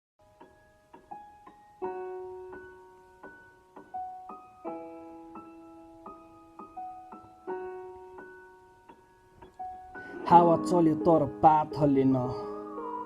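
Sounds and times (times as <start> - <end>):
soft piano music: 0.2 - 13.0.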